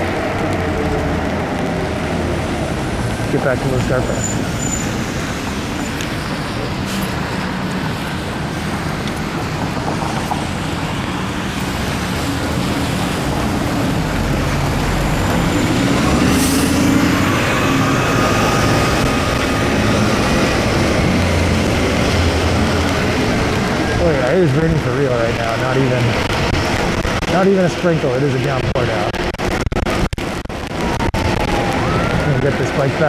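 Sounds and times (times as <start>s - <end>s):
traffic on a wet street: 0.0s - 33.0s.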